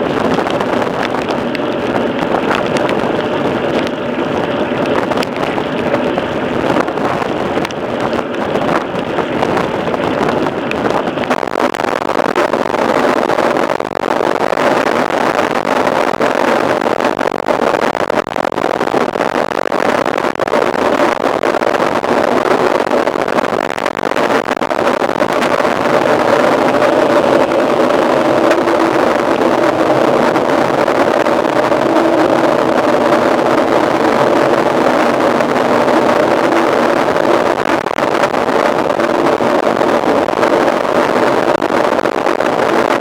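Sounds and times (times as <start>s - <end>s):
wind buffeting microphone: 0.0s - 13.8s, 20.7s - 43.0s.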